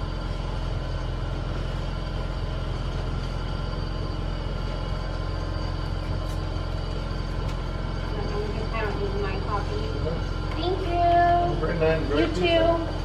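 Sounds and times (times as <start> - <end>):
faint constant hum: 0.0 - 13.0
vehicle engine rumbling: 0.0 - 13.0.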